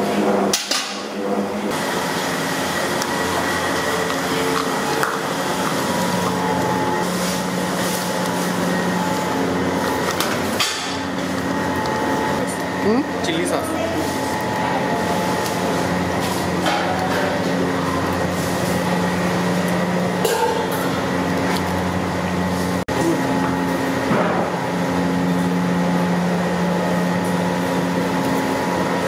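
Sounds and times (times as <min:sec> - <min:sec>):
motor humming: 0:00.0 - 0:29.0.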